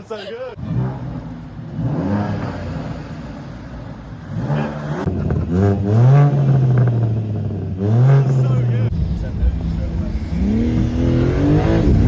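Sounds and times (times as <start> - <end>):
car engine revving: 0.6 - 12.0.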